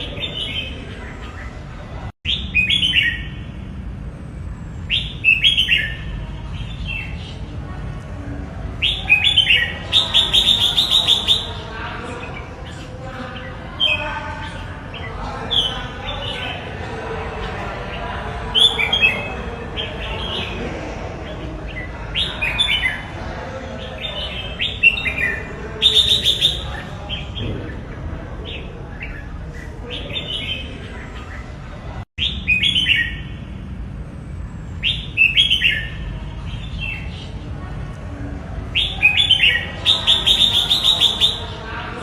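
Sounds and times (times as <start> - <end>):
bird chirping song: 0.0 - 3.6, 4.8 - 7.8, 8.6 - 33.4, 34.7 - 37.5, 38.6 - 41.6.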